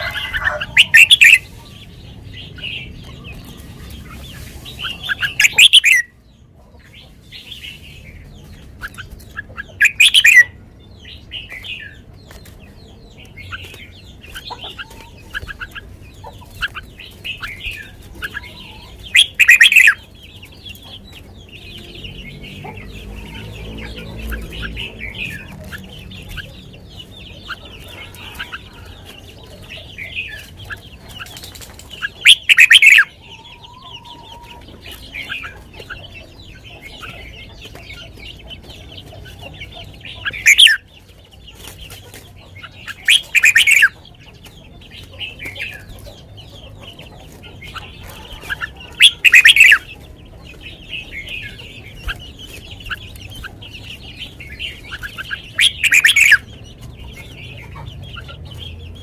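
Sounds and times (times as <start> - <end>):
bird chirping: 0.0 - 59.0
bird song phrases: 0.0 - 59.0.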